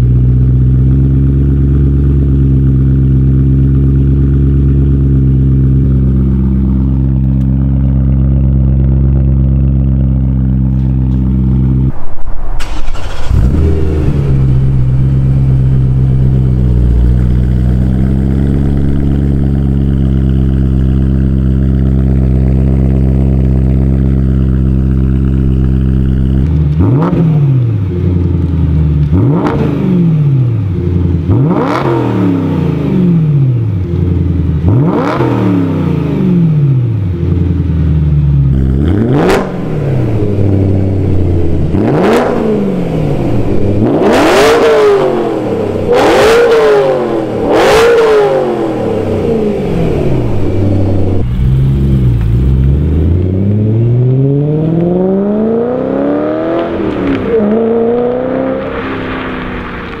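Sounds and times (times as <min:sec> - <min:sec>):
car engine revving: 0:00.0 - 1:00.0
exhaust crackle: 0:00.0 - 1:00.0.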